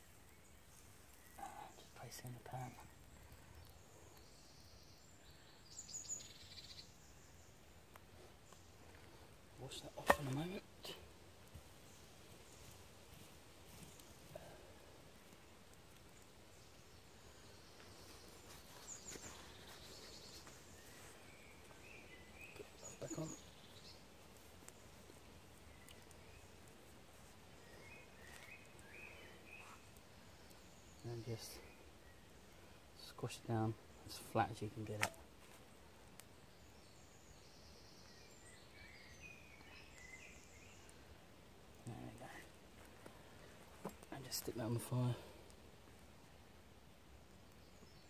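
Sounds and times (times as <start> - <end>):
faint birdsong: 0.0 - 48.0.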